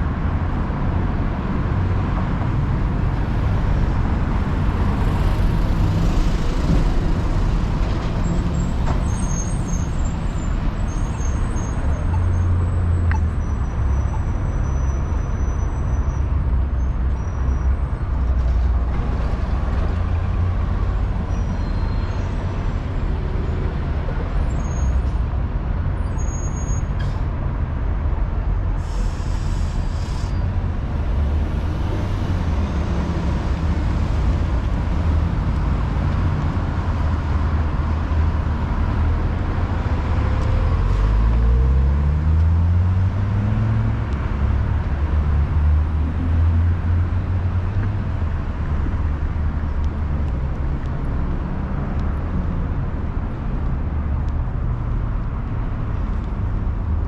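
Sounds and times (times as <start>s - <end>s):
street traffic engines: 0.0s - 57.0s.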